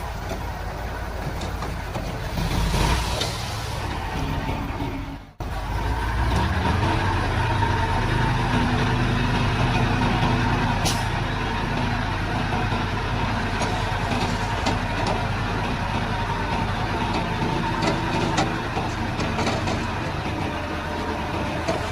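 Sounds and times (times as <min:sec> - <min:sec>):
heavy diesel machinery engine: 0:00.0 - 0:21.9.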